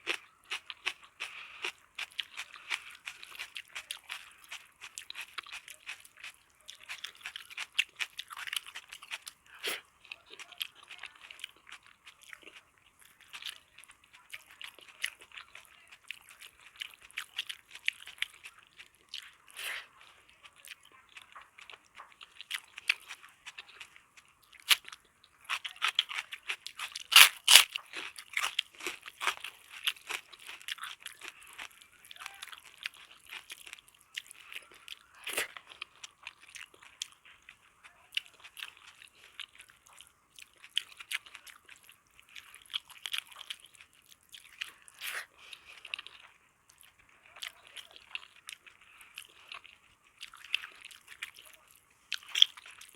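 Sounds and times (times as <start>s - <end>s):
person chewing and crunching food: 0.0s - 52.9s.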